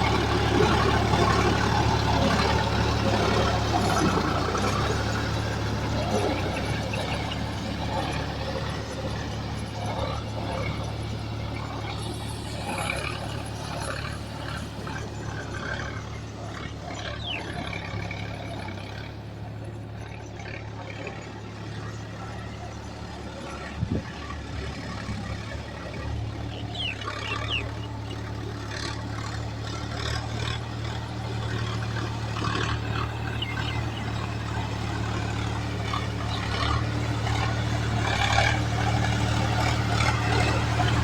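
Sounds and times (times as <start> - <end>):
heavy diesel machinery running: 0.0 - 41.0.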